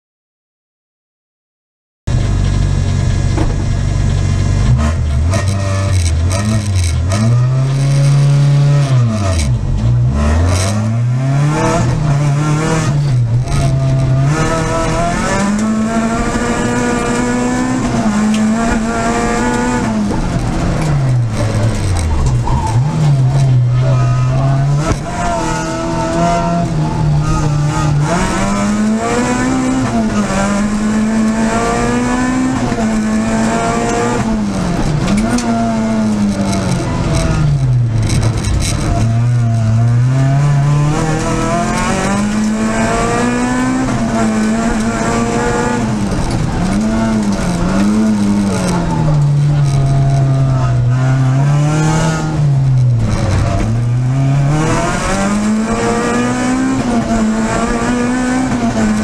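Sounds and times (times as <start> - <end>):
rally car engine revving: 2.1 - 59.0.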